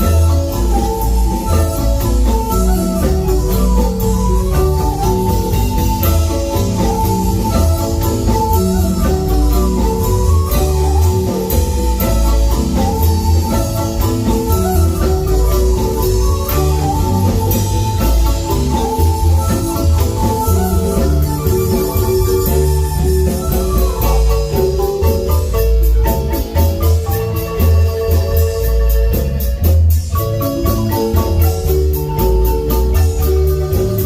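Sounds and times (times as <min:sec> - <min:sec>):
bass line: 0:00.0 - 0:34.0
drum kit: 0:00.0 - 0:34.0
marimba notes: 0:00.0 - 0:34.0.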